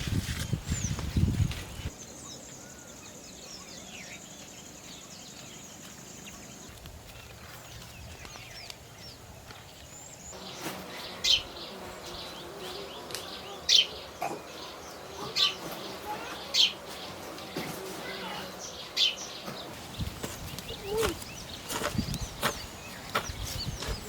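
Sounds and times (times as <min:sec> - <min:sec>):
birds chirping and calling: 0:00.7 - 0:24.0.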